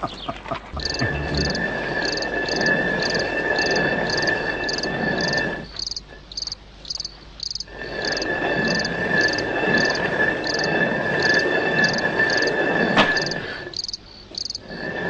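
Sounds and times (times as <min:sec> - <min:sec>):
rough grinding noise: 0:00.7 - 0:06.3, 0:07.6 - 0:13.8, 0:14.4 - 0:15.0
crickets chirping: 0:00.8 - 0:15.0
high insect trill: 0:00.8 - 0:15.0.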